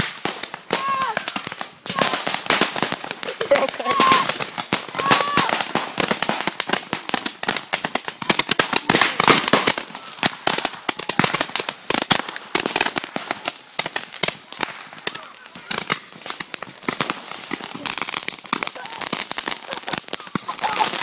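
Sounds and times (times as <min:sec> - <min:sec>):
fireworks cracking and popping: 0:00.0 - 0:21.0.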